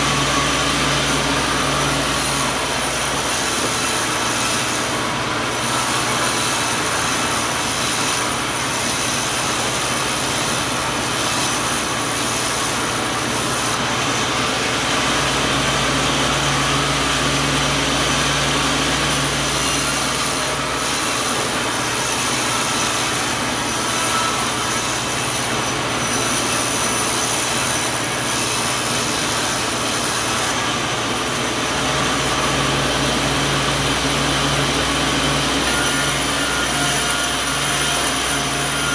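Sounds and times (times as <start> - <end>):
sawmill machinery whine: 0.0 - 38.9.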